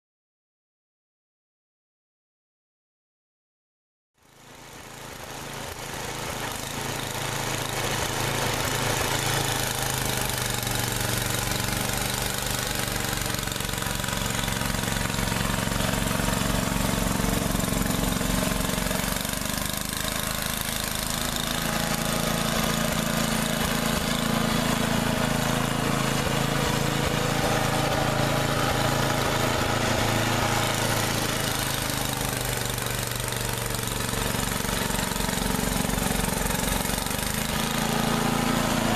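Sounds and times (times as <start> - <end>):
snowblower engine running: 4.2 - 38.9.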